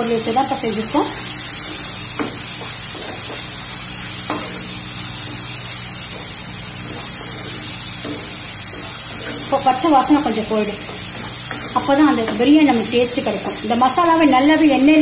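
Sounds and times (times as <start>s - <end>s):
paste sizzling in hot oil: 0.0s - 15.0s
spatula scraping a pan: 1.2s - 14.8s.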